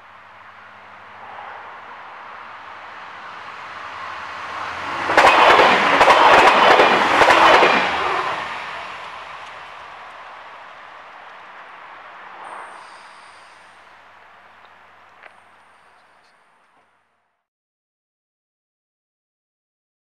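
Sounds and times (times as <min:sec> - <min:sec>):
diesel train passing: 0:00.0 - 0:17.1.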